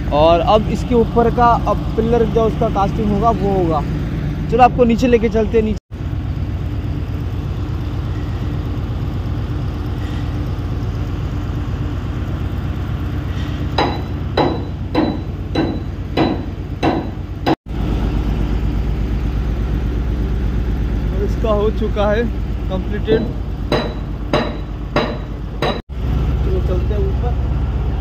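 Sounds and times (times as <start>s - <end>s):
machinery engine hum: 0.0s - 28.0s.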